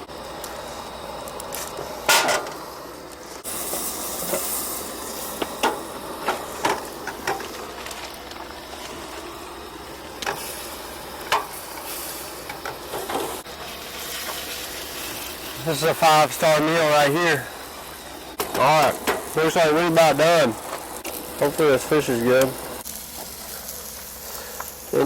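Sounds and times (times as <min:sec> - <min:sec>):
fish sizzling in a pan: 0:00.0 - 0:25.0.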